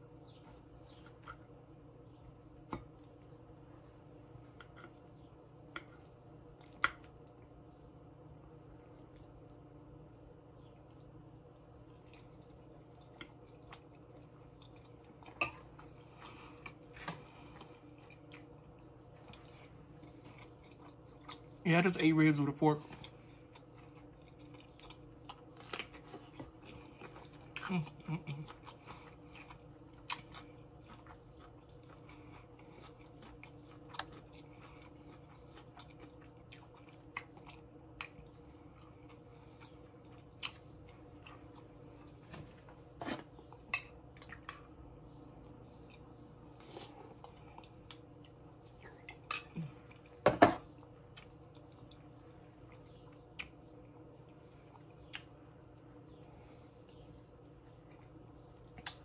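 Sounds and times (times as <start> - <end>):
chewing: 0.3 - 9.8, 10.6 - 21.6, 23.0 - 59.0.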